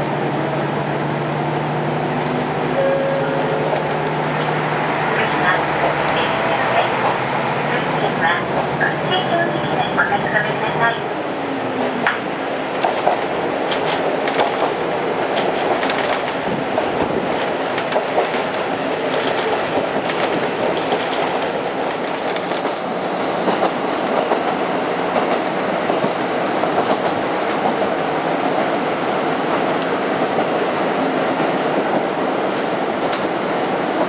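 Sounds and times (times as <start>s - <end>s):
railcar running noise: 0.0s - 34.0s.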